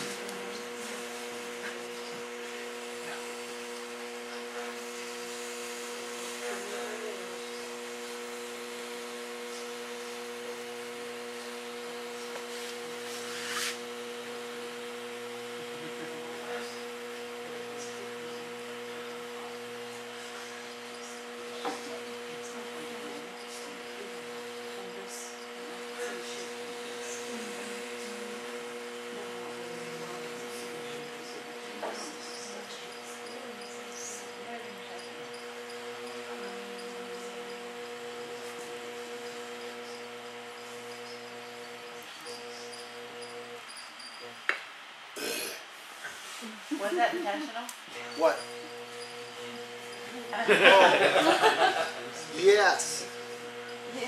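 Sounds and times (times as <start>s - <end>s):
steady machine hum: 0.0s - 54.0s.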